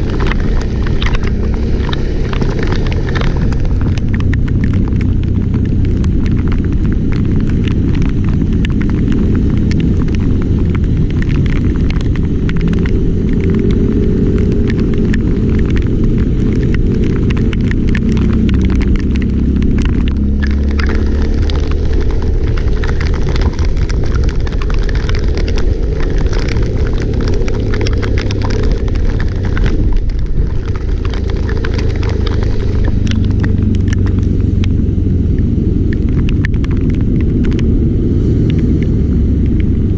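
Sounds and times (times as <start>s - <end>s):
vehicle engine running: 0.0s - 39.9s
wind buffeting microphone: 0.0s - 39.9s.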